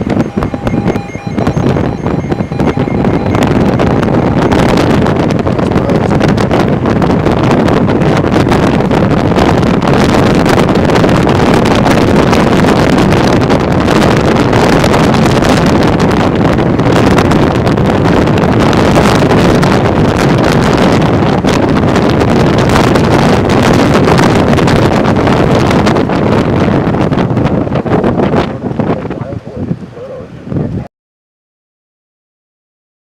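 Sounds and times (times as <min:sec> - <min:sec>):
storm wind buffeting microphone: 0:00.0 - 0:30.9.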